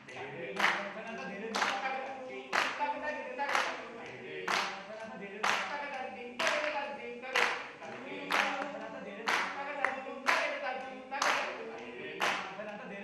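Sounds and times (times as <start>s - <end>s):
hand claps in a steady beat: 0.0s - 12.9s
sustained singing voices: 0.0s - 13.0s.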